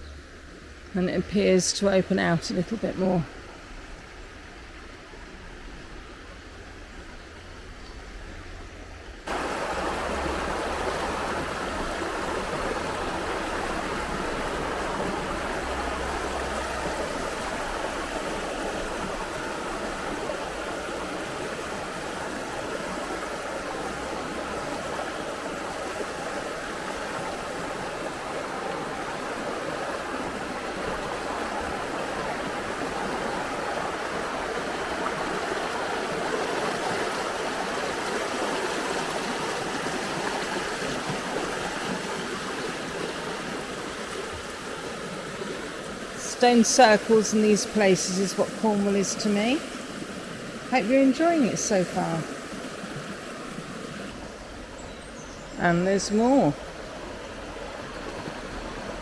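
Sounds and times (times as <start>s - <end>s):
river rushing over rocks: 9.2s - 54.8s, 55.6s - 59.0s.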